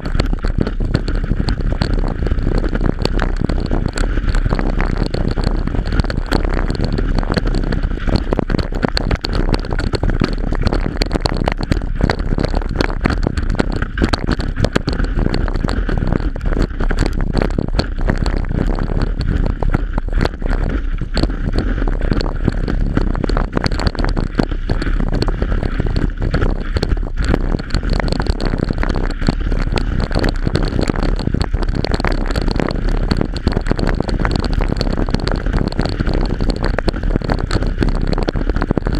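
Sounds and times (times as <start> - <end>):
water rushing and splashing: 0.0 - 38.9
wind buffeting microphone: 0.0 - 38.9.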